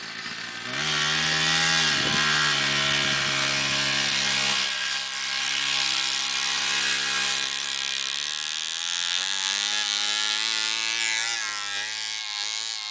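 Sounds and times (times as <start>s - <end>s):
snowmobile engine buzzing: 0.0s - 12.9s.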